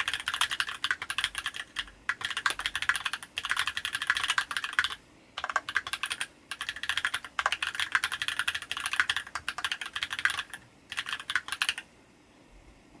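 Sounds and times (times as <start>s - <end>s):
mechanical keyboard typing: 0.0s - 11.9s.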